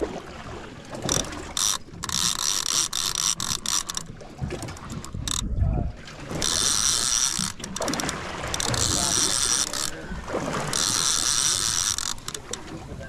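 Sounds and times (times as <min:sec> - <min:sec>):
fishing reel buzzing: 0:00.9 - 0:05.5, 0:06.3 - 0:12.6.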